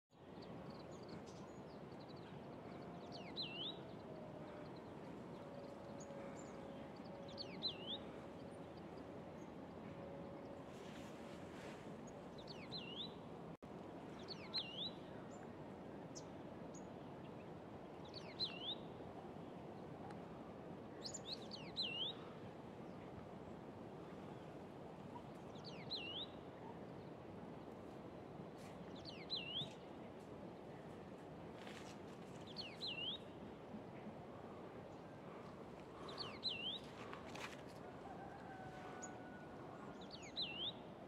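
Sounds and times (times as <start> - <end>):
low background noise: 0.1 - 41.0.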